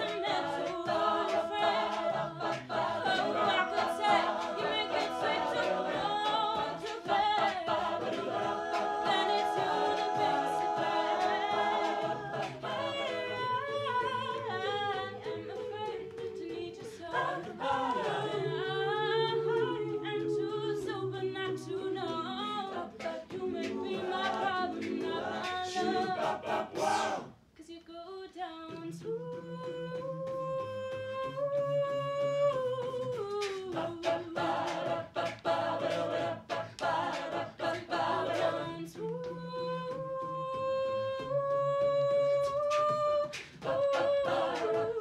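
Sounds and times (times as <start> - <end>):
backing voices singing harmony: 0.0 - 27.4, 28.7 - 45.0.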